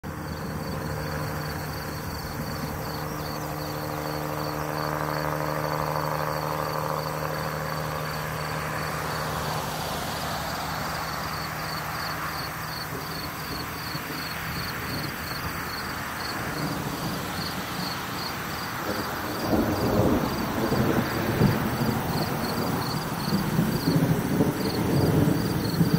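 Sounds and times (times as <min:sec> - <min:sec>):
crickets chirping: 0:00.1 - 0:25.9.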